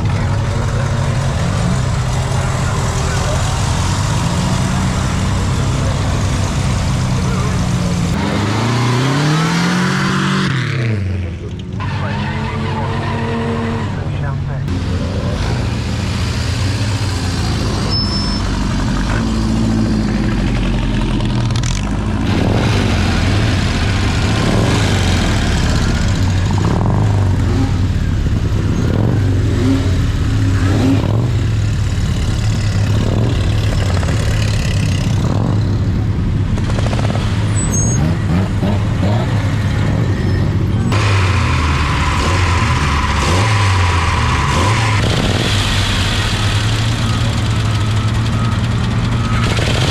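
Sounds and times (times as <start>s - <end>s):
racing car engines running: 0.0s - 49.9s.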